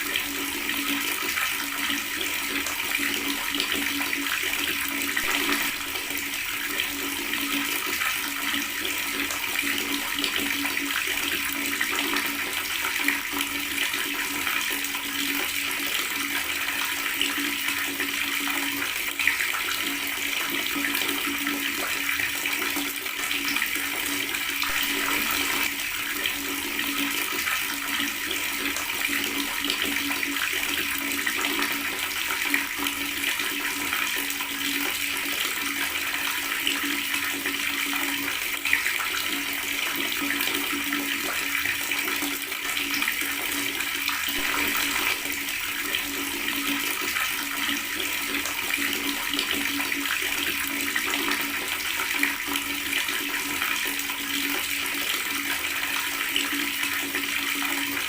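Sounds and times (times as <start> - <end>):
water tap running and gurgling: 0.0 - 58.0.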